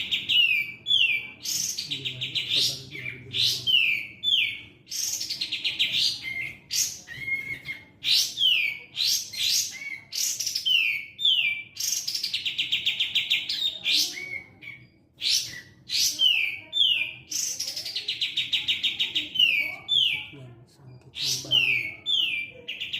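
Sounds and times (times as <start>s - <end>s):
songbird singing: 0.0s - 22.9s.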